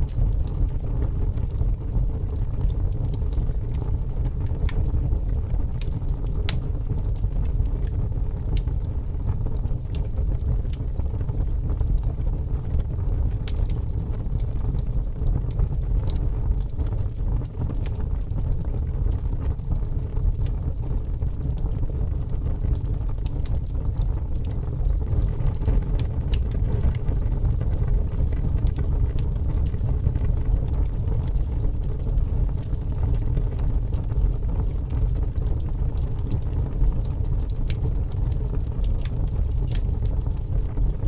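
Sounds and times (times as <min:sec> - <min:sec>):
fire crackling and rumbling: 0:00.0 - 0:41.0.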